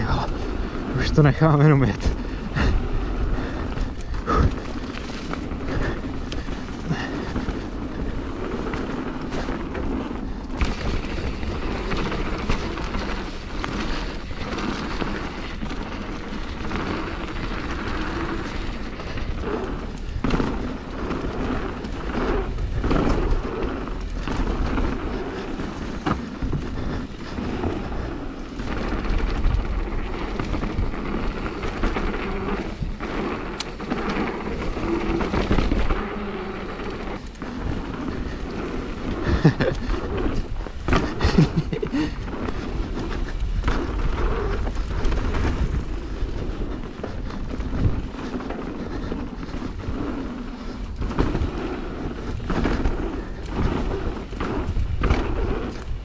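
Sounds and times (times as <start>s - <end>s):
bike knocking and rattling: 0.0s - 56.0s
bike tyres rumbling on trail: 0.0s - 56.0s
wind on microphone: 0.0s - 56.0s.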